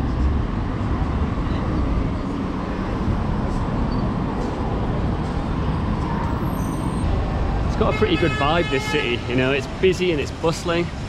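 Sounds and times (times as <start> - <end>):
traffic: 0.0 - 11.0.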